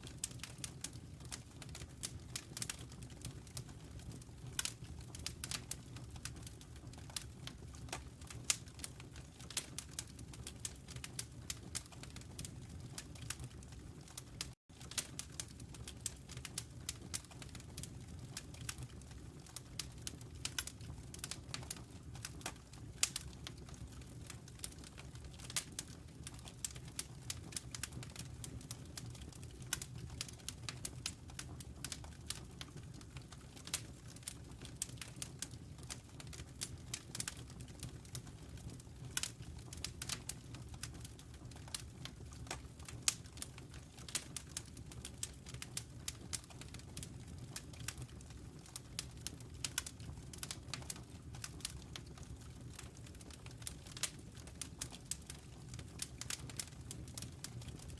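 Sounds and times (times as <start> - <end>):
low rumble of flames: 0.0 - 57.9
wood fire popping and snapping: 0.0 - 57.9.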